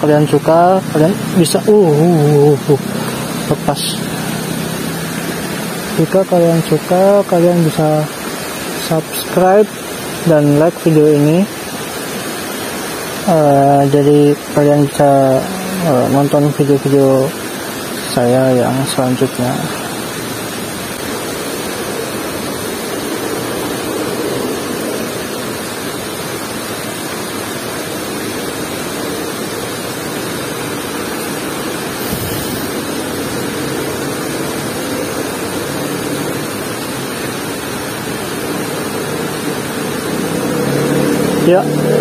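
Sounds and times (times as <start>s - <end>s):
river flowing over rocks: 0.0s - 42.0s.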